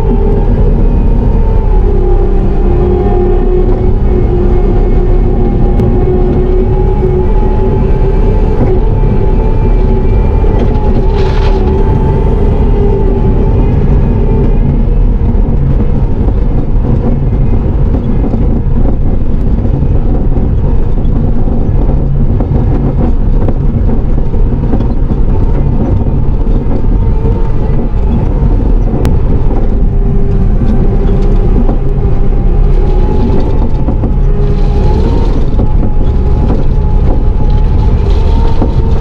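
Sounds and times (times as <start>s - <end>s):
diesel engine and hydraulics: 0.0s - 39.0s
steady whine: 0.0s - 39.0s.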